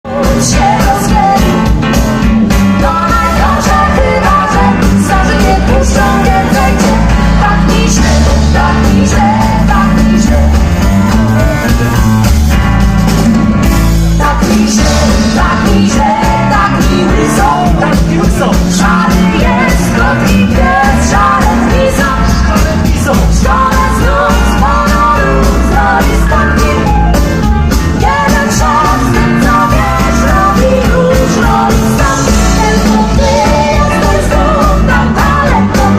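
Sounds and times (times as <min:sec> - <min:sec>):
rock and roll song with vocals: 0:00.0 - 0:35.9.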